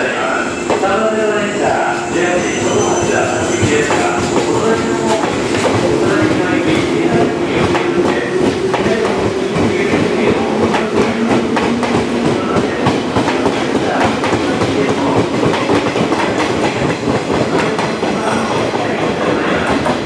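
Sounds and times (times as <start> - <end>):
electric train running past: 0.0 - 20.0.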